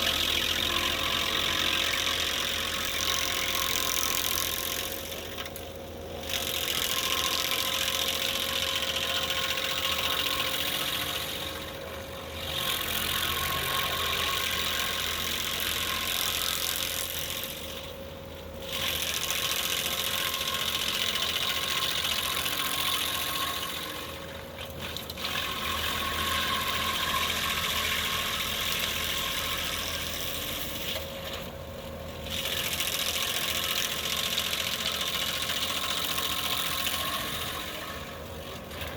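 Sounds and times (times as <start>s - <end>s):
stump grinder cutting noise: 0.0s - 38.9s.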